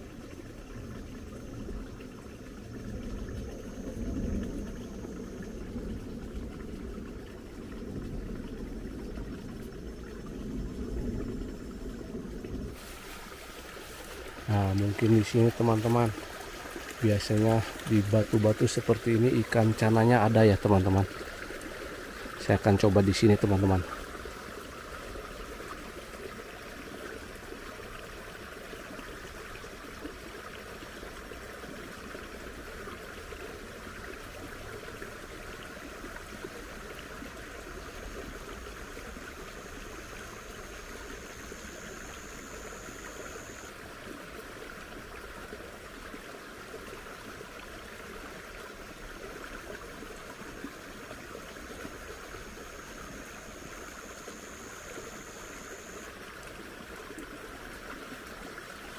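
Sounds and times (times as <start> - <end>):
water trickling: 0.0 - 58.9.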